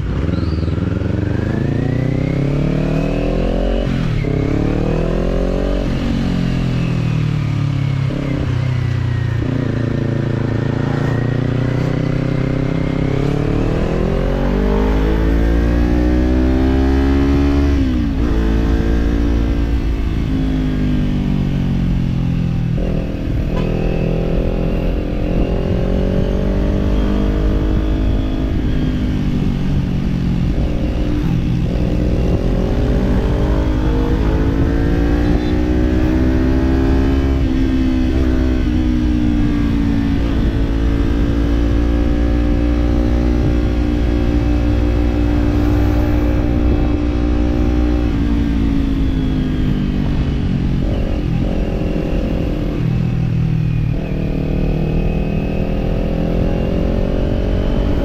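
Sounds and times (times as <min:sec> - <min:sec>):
motorcycle engine accelerating: 0:00.0 - 0:58.0
wind rumble on microphone: 0:00.0 - 0:58.0.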